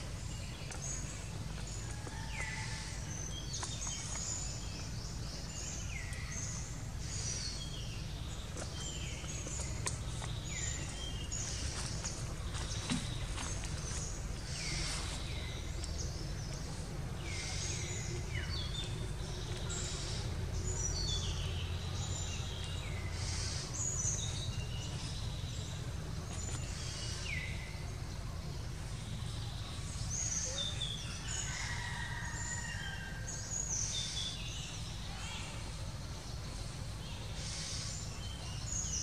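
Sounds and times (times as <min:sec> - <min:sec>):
low background rumble: 0:00.0 - 0:39.0.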